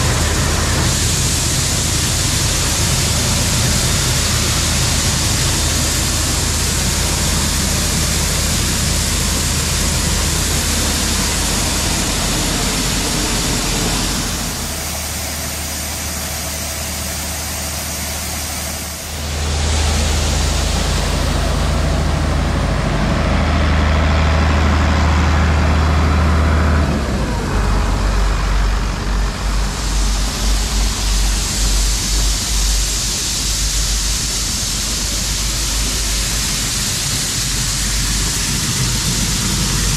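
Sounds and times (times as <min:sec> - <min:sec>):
diesel farm machinery running: 0:00.0 - 0:39.9.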